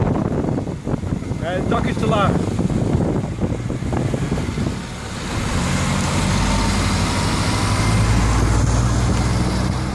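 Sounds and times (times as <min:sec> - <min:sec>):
tyre and wind noise: 0:00.0 - 0:09.9
vehicle engine drone: 0:00.0 - 0:09.9.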